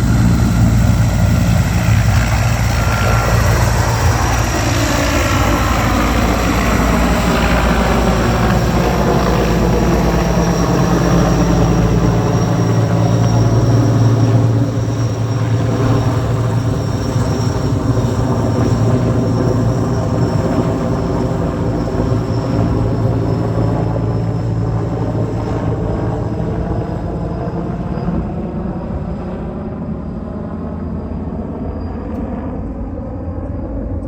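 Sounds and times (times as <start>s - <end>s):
helicopter rotor: 0.0s - 34.0s
turbine engine whine: 0.0s - 34.0s.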